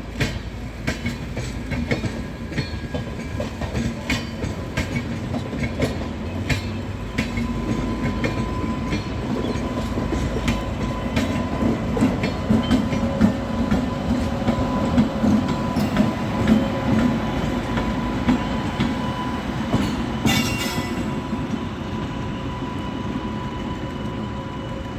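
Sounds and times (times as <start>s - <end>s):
wheels clacking over rail joints: 0.0s - 21.3s
train coaches rumbling past: 0.0s - 24.9s.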